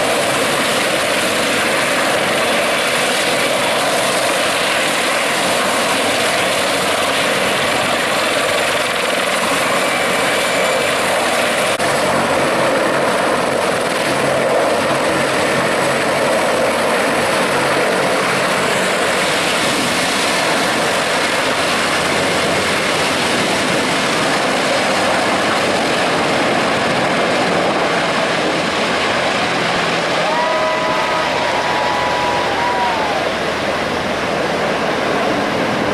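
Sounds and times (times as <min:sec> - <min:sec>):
helicopter rotor and turbine noise: 0:00.0 - 0:35.9.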